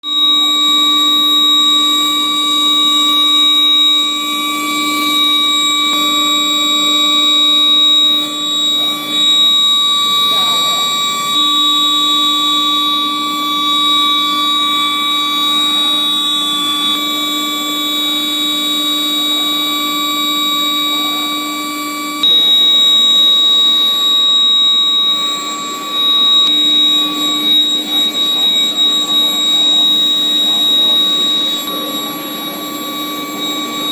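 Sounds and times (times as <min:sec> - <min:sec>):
induction furnace electrical whine: 0:00.0 - 0:33.9.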